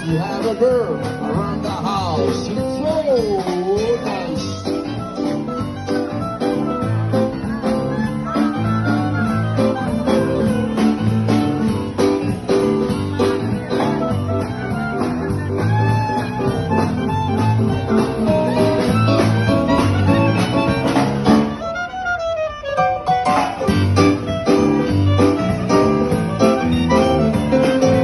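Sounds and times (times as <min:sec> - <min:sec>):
instrumental music with steady beat: 0:00.0 - 0:28.0.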